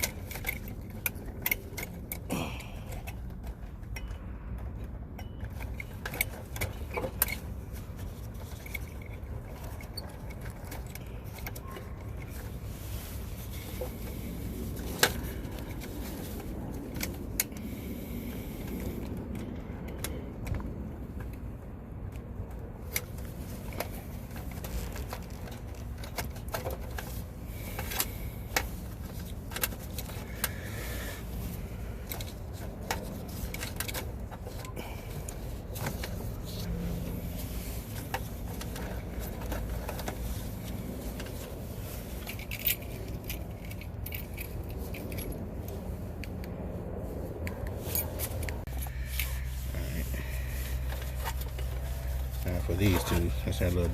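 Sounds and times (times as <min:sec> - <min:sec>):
low background rumble: 0:00.0 - 0:53.9.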